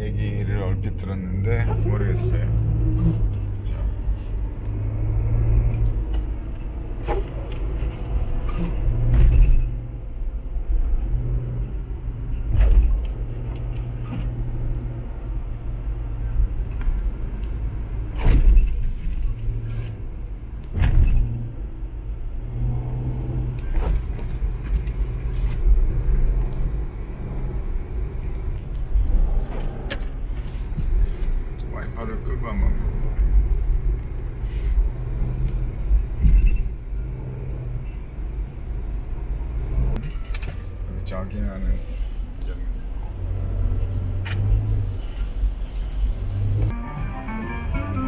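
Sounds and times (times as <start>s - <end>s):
engine and road rumble: 0.0s - 48.0s.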